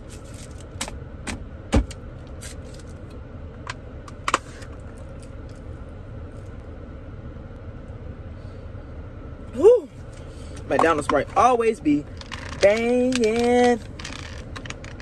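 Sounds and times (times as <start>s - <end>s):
car cabin rumble: 0.0s - 8.2s, 9.3s - 15.0s.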